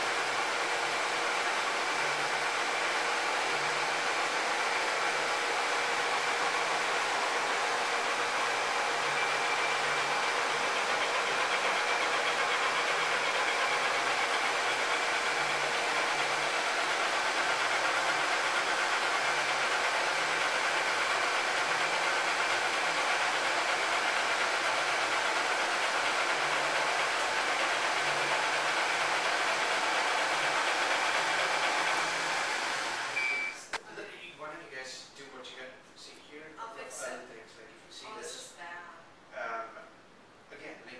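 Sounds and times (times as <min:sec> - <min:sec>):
laser engraver whirring: 0:00.0 - 0:33.6.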